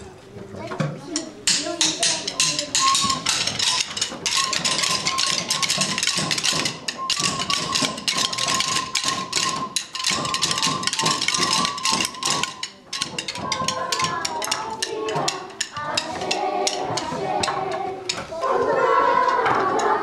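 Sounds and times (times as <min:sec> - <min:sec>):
drumsticks beating plastic buckets: 0:01.1 - 0:20.0.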